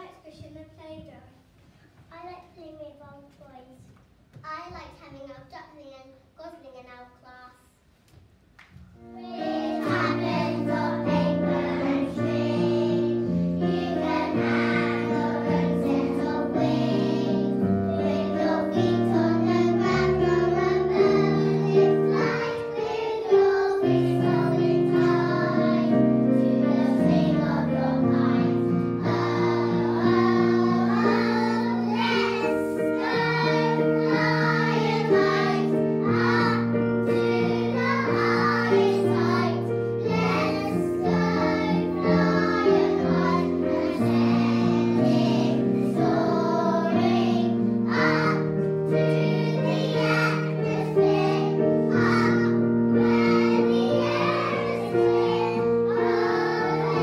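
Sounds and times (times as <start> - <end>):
children singing in unison: 9.2 - 57.0.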